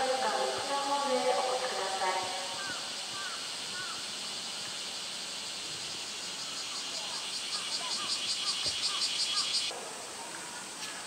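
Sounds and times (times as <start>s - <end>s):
cicadas buzzing: 0.0s - 9.8s
pulsing cicada song: 0.0s - 9.8s.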